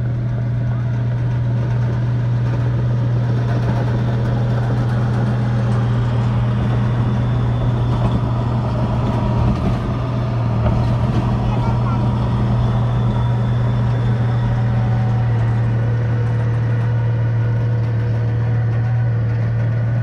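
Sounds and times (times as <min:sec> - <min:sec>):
bulldozer engine running: 0:00.0 - 0:20.0.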